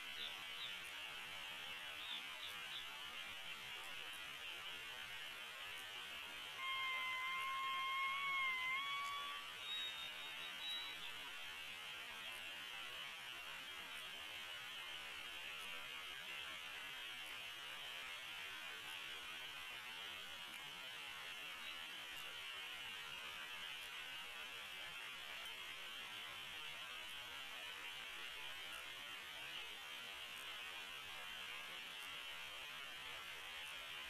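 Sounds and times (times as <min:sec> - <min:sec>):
microphone hiss: 0:00.0 - 0:34.0.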